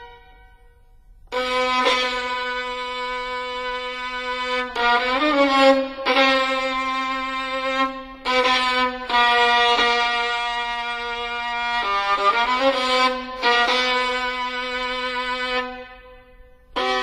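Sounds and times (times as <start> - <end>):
slow music with long held notes: 0.0 - 17.0.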